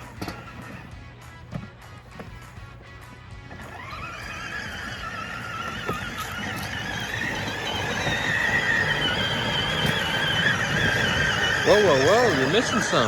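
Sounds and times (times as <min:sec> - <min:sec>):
toy truck electric motors whining: 0:00.0 - 0:01.3, 0:03.4 - 0:13.0
plastic wheels rumbling on ground: 0:00.0 - 0:13.0.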